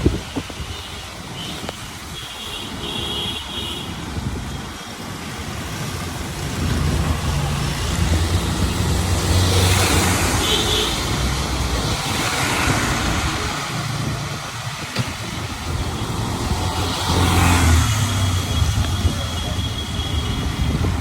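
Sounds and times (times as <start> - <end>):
vehicles passing on wet road: 0.0 - 21.0.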